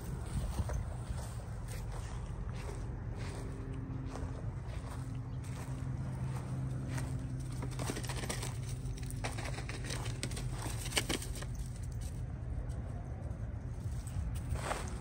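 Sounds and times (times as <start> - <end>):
footsteps on dry leaves: 0.0 - 11.7, 13.8 - 15.0
low hum: 0.0 - 15.0.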